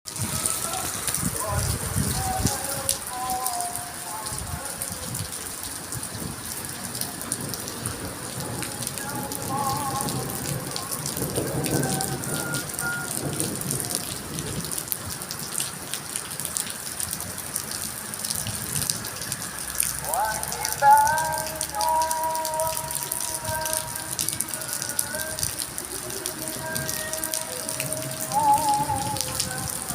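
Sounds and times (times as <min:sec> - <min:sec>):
heavy rain on hard surfaces: 0:00.0 - 0:29.9.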